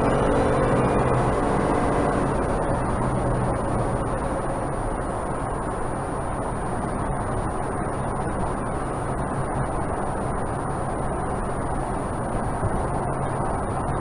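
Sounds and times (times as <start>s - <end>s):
faint high-pitched whine: 0.0s - 14.0s
road and engine rumble: 0.0s - 14.0s.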